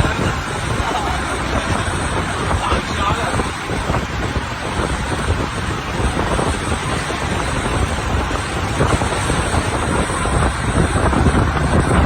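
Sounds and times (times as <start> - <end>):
road noise: 0.0 - 12.0
wind buffeting microphone: 0.0 - 12.0.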